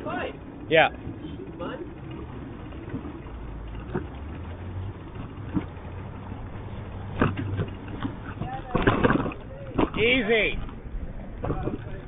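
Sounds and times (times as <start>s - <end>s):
steady road hiss: 0.0s - 12.0s
traffic rumble: 0.0s - 12.0s.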